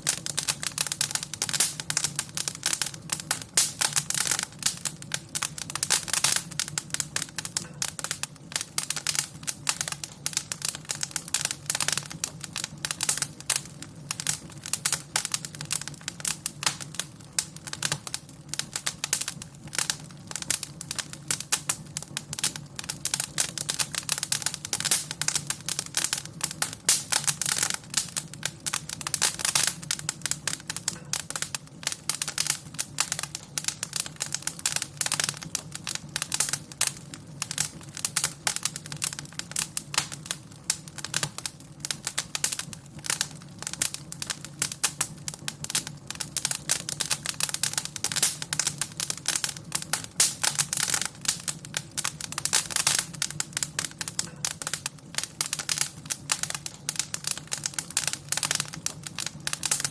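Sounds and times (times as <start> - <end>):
fire crackling in fireplace: 0.0 - 59.9.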